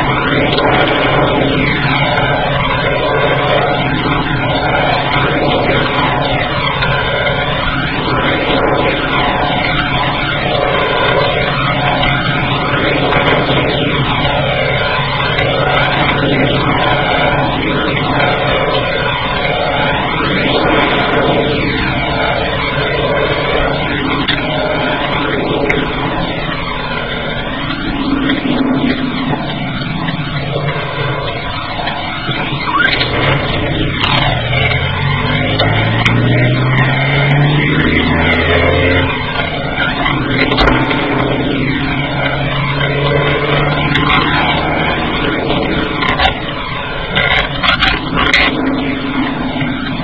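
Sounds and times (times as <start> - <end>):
car road and engine noise: 0.0 - 50.0.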